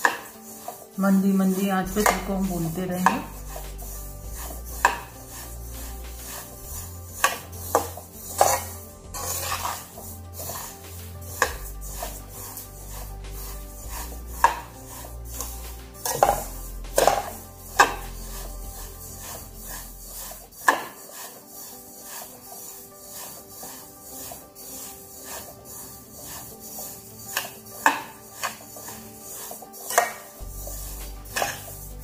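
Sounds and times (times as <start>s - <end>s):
metal spatula scraping metal pan: 0.0s - 32.0s
quiet background music: 0.0s - 32.0s.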